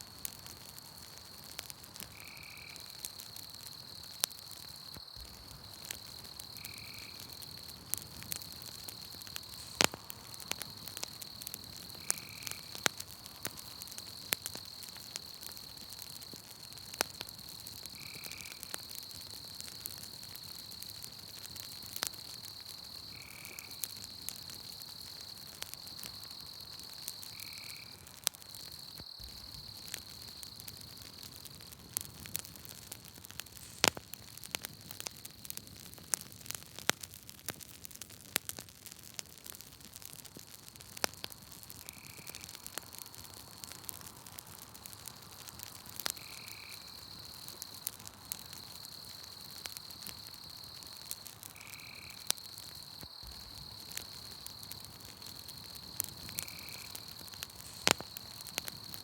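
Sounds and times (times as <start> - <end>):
night insects trilling: 0.0 - 36.9, 39.4 - 59.0
campfire crackling and popping: 0.0 - 59.0.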